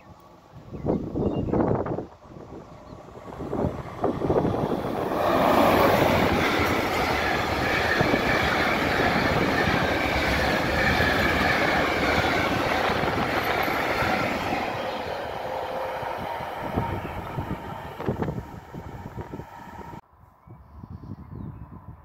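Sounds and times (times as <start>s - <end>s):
freight train wheels rumbling: 0.3s - 20.0s.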